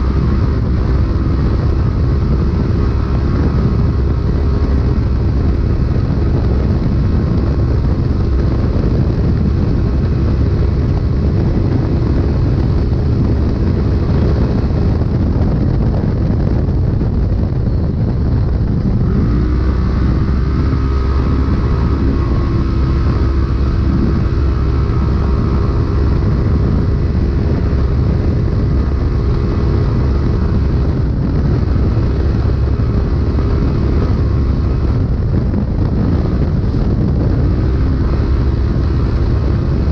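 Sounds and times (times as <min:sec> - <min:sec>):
engine running hard: 0:00.0 - 0:39.9
wind rushing: 0:00.0 - 0:39.9.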